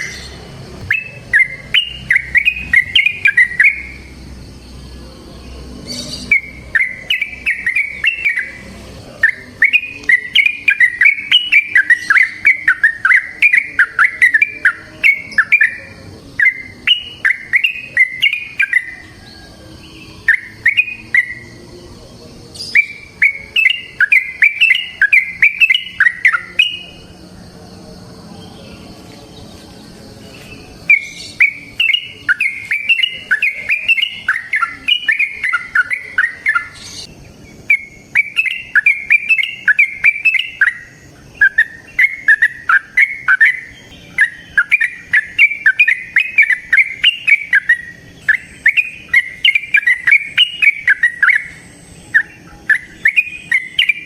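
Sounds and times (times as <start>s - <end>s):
bird chirping rapidly: 0.0s - 21.7s, 22.5s - 27.1s, 30.4s - 54.0s.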